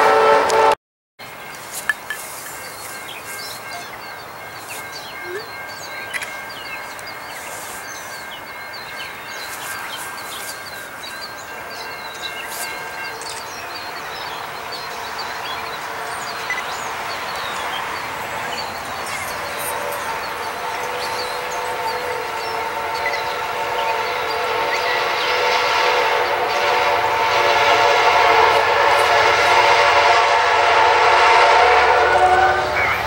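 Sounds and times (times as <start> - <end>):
distant approaching train: 0.0 - 33.0
birds chirping: 1.2 - 30.2, 31.7 - 33.0.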